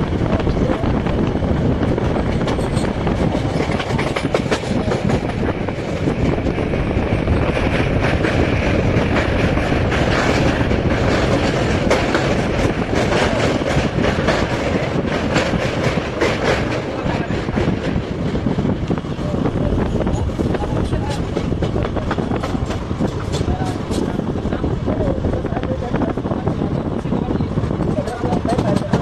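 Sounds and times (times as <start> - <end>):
train wheels rumbling on rails: 0.0 - 29.0
coaches clicking and rattling: 0.1 - 29.0.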